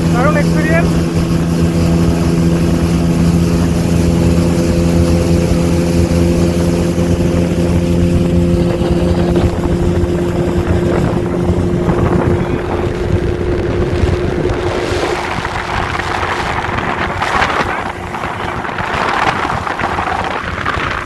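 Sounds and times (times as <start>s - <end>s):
motorboat engine running: 0.0s - 21.0s
water rushing past: 0.0s - 21.0s
wind buffeting microphone: 0.0s - 21.0s.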